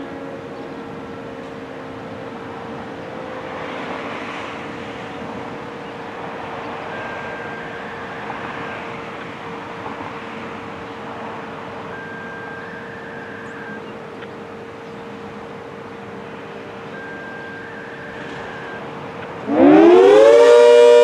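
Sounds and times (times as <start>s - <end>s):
broad rushing noise: 0.0s - 21.0s
warning siren steady tone: 0.0s - 21.0s.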